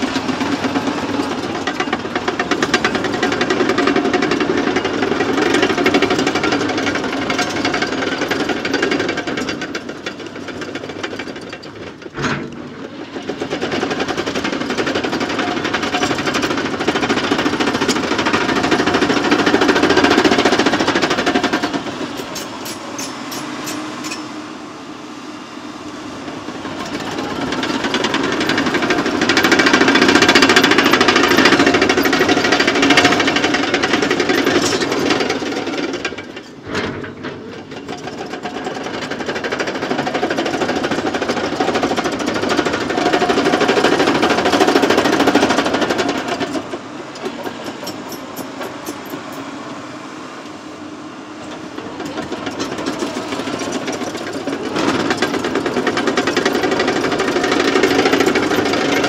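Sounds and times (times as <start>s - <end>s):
steel tracks clattering: 0.0s - 24.5s, 26.2s - 49.7s, 51.4s - 59.0s
diesel engine under load: 0.0s - 59.0s.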